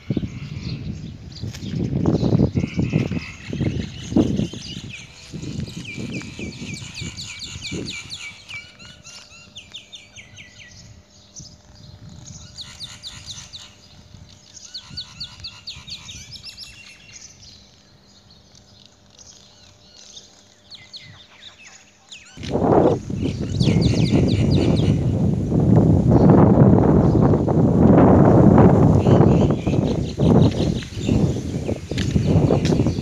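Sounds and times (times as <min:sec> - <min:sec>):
birds chirping: 0:00.0 - 0:25.3, 0:28.3 - 0:33.0.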